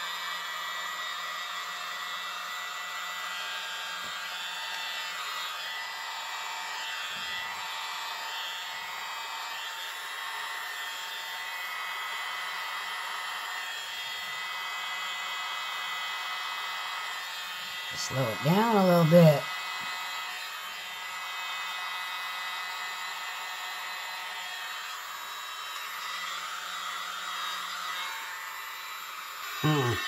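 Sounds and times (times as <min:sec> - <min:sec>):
electric mini blower whirring: 0:00.0 - 0:30.0.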